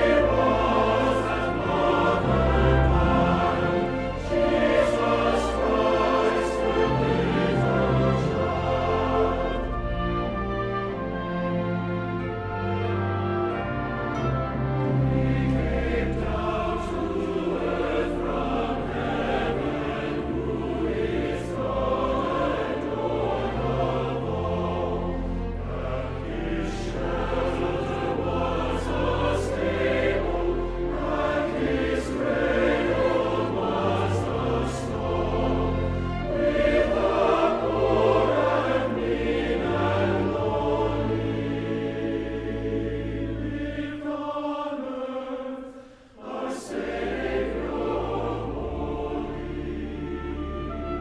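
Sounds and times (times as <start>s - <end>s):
sustained instrumental accompaniment: 0.0s - 45.0s, 46.2s - 51.0s
choir singing: 0.0s - 51.0s.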